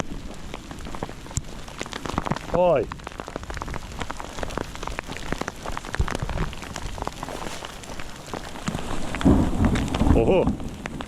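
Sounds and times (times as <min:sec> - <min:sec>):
hail rattling: 0:00.0 - 0:11.0.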